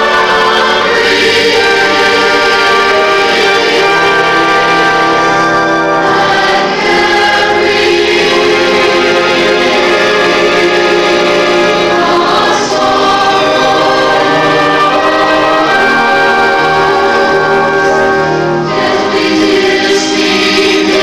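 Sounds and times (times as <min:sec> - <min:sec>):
choir singing held chords: 0:00.0 - 0:21.0
string orchestra: 0:00.0 - 0:21.0.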